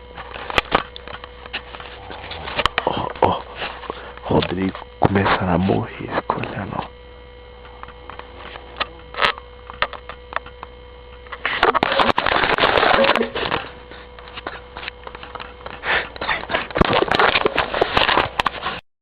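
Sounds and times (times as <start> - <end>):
low steady hum: 0.0 - 18.8
scattered clicks: 0.2 - 7.0, 7.6 - 18.6.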